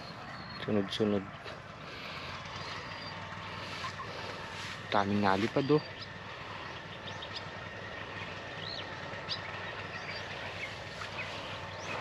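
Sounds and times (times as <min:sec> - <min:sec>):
small birds chirping: 0:00.0 - 0:12.0
steady outdoor hiss: 0:00.0 - 0:12.0.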